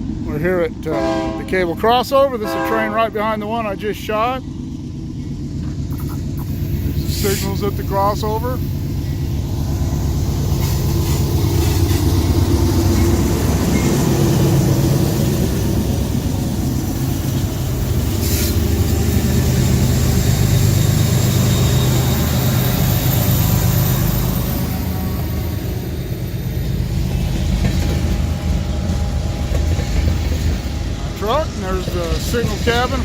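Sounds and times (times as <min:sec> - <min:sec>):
locomotive engine drone: 0:00.0 - 0:33.0
train rolling rumble: 0:00.0 - 0:33.0.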